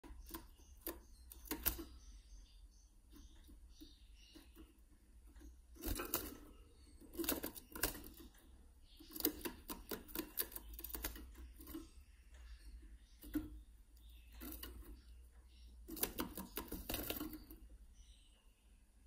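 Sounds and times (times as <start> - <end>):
birds clicking and rattling: 0.0 - 17.9
high bird twittering: 0.0 - 18.8.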